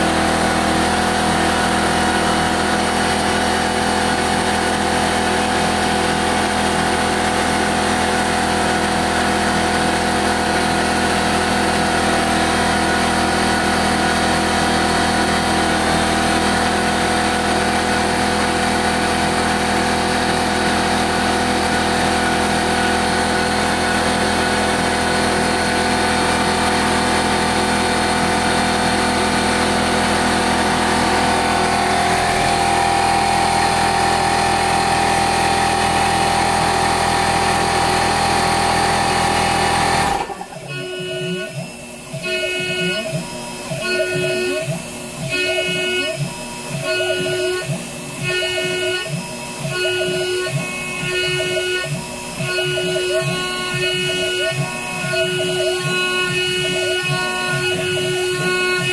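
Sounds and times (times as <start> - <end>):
milling cutter cutting metal: 0.0 - 58.9.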